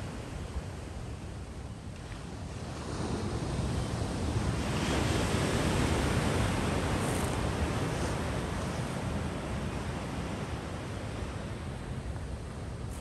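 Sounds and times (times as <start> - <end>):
ocean surf breaking on beach: 2.3 - 13.0.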